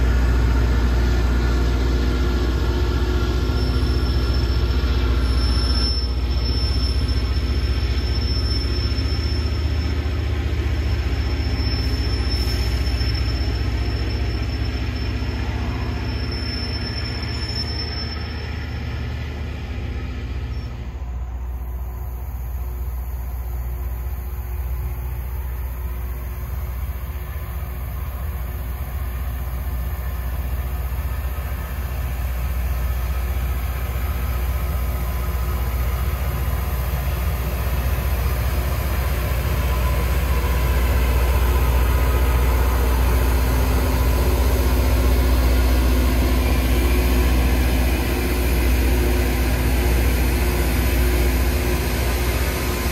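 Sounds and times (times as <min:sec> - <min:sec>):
train engine drone: 0:00.0 - 0:52.9.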